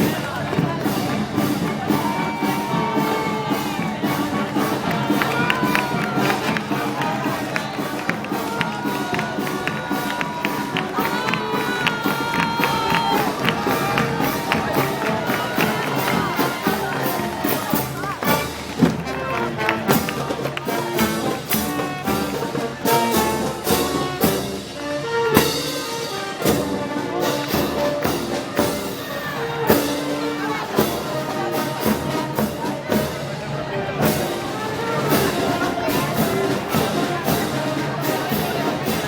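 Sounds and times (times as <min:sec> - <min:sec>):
brass band melody: 0:00.0 - 0:39.0
drums and cymbals beat: 0:00.0 - 0:39.0.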